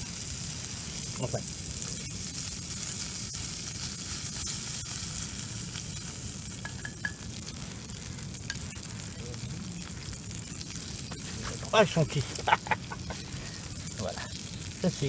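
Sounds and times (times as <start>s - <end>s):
bacon sizzling in a skillet: 0.0s - 15.0s
wood fire: 0.0s - 15.0s.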